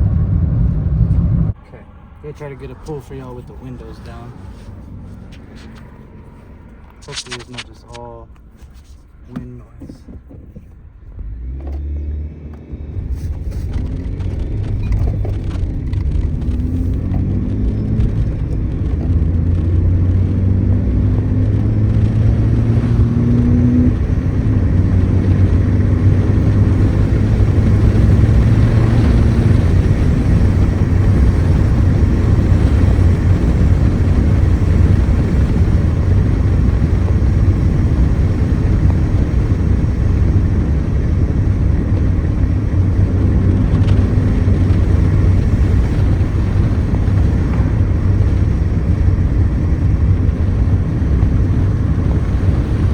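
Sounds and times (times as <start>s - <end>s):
car engine accelerating: 0.0s - 52.9s
wind and road noise: 0.0s - 52.9s.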